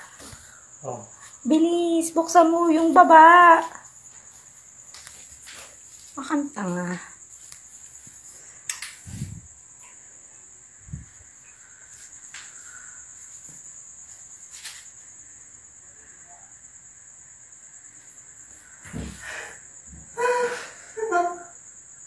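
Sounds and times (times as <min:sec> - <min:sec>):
cricket trilling: 0:00.0 - 0:22.0.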